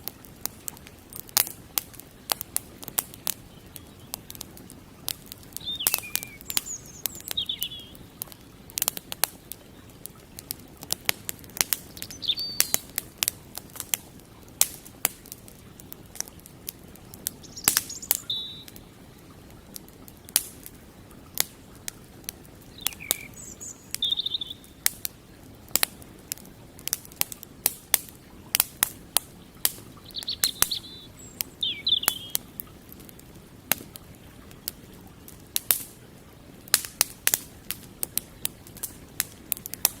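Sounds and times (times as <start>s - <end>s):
small birds chirping: 0.0s - 14.6s, 15.2s - 27.2s, 28.0s - 35.7s
campfire crackling and popping: 0.0s - 40.0s.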